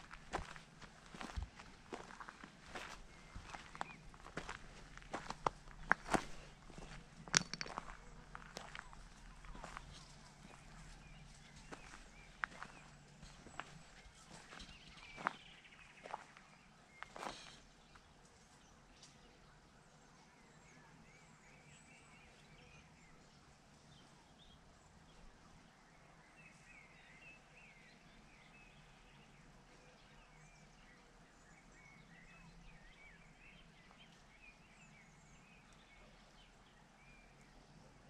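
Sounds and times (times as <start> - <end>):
small birds chirping softly: 0.0 - 38.0.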